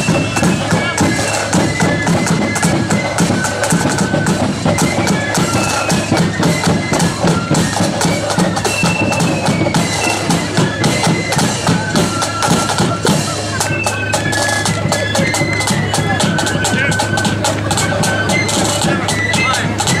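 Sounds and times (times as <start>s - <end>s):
fast snare drumming: 0.0s - 20.0s
high flute melody: 0.0s - 20.0s.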